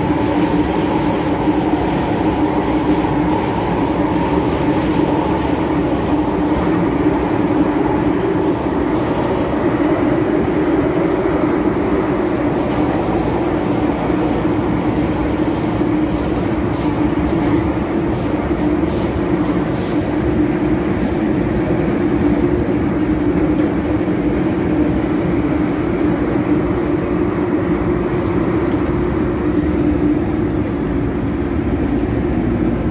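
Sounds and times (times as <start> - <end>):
train wheels roaring on rail: 0.0 - 32.9.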